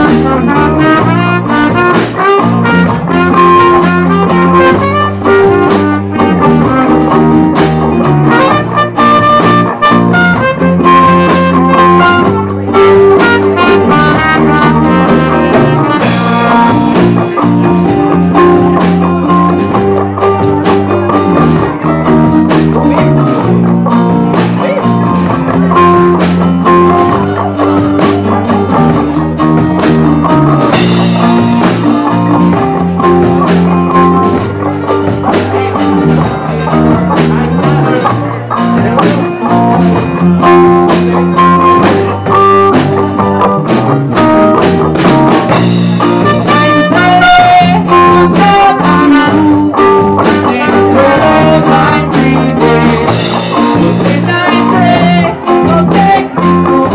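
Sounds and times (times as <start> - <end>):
drum kit beat: 0.0 - 56.9
electric guitar: 0.0 - 56.9.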